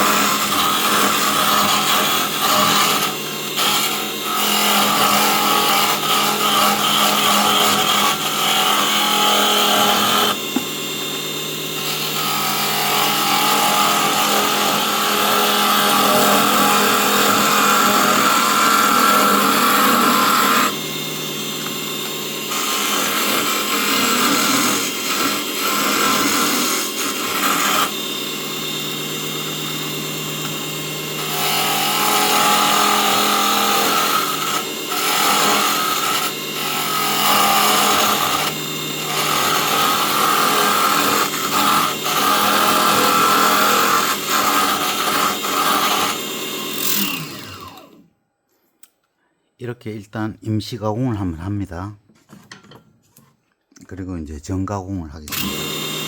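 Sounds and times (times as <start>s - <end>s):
lathe motor hum: 0.0s - 48.0s, 55.3s - 56.0s.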